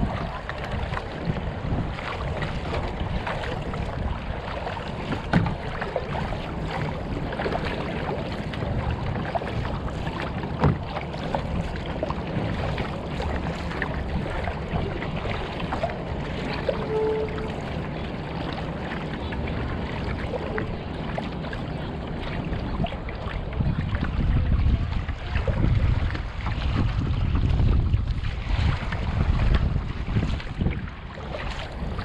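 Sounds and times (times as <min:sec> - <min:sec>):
water splashing around kayak: 0:00.0 - 0:32.0
wind buffeting microphone: 0:00.0 - 0:32.0.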